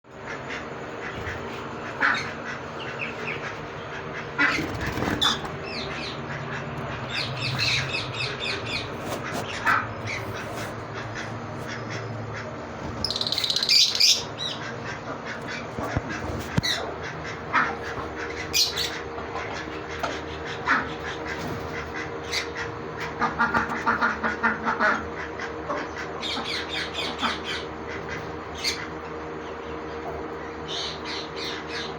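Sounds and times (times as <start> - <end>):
harsh bird squawk: 0.2 - 29.0
parrots chirping and squawking: 0.2 - 29.0, 30.5 - 31.9.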